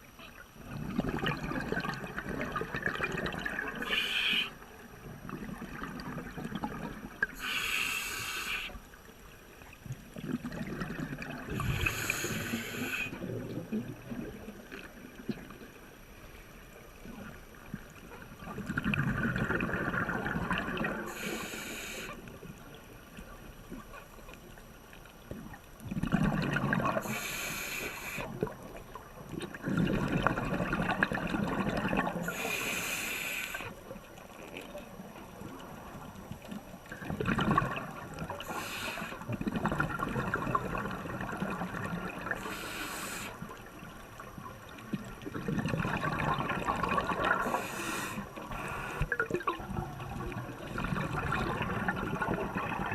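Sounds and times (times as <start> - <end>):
bubbles rumbling and gurgling: 0.0 - 7.4, 9.6 - 21.2, 22.2 - 27.2, 28.3 - 32.5, 33.8 - 42.6, 43.3 - 52.9.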